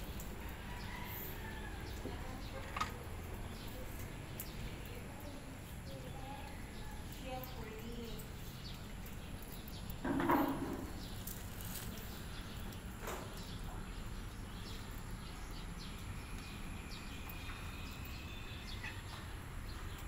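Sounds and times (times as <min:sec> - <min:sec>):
birds chirping: 0:00.0 - 0:20.0
low outdoor hum: 0:00.0 - 0:20.0.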